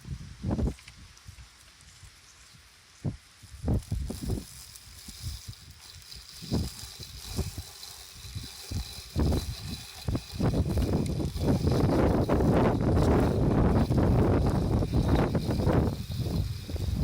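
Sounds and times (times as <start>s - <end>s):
wind buffeting microphone: 0.0s - 1.1s, 3.0s - 17.0s.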